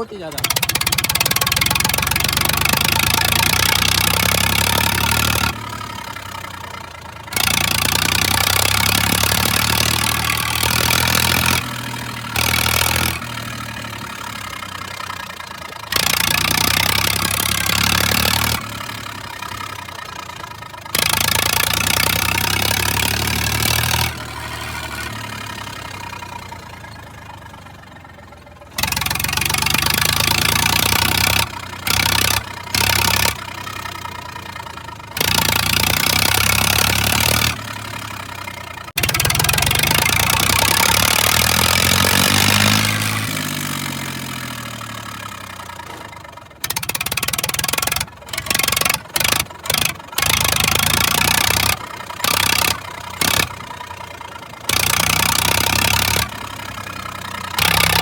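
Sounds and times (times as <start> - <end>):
tractor engine with open exhaust: 0.0 - 58.0.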